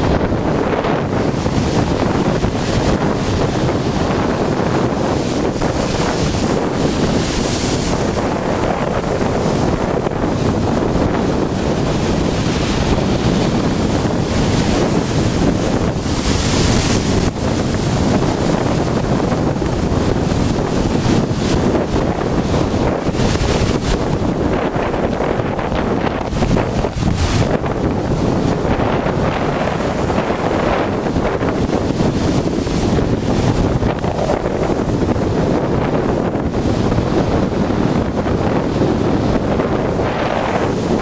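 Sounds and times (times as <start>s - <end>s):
waves crashing: 0.0s - 41.0s
wind buffeting microphone: 0.0s - 41.0s.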